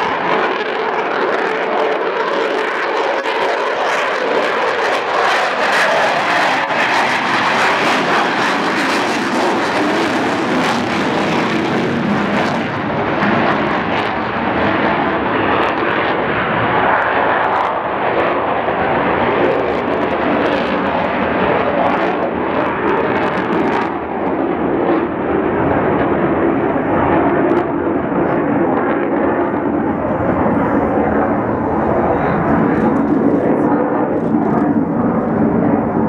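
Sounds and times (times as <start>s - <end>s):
jet roar: 0.0s - 36.0s.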